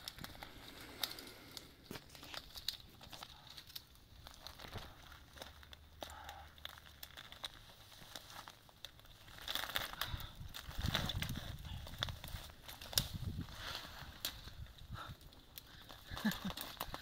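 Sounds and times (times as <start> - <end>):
faint rustling and crackling: 0.0 - 17.0.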